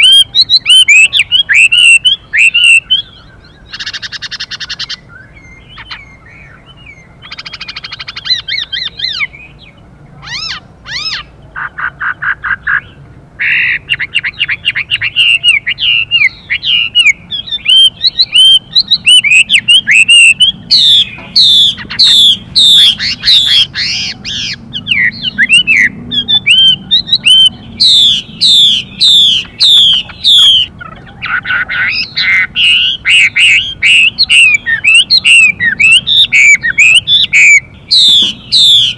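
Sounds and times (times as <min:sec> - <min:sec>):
harsh buzzy bird rasps: 0:00.0 - 0:09.6, 0:10.2 - 0:38.9
whistled birdsong: 0:00.0 - 0:38.9.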